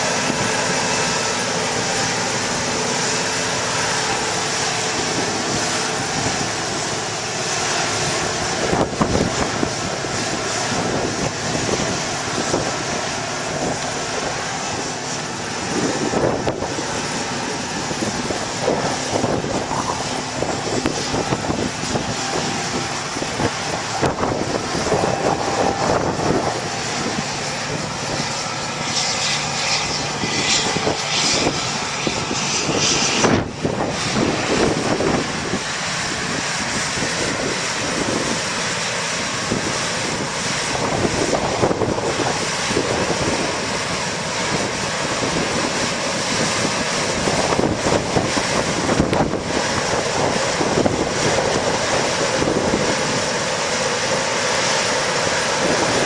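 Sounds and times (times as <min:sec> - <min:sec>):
harvester engine drone: 0:00.0 - 0:56.0.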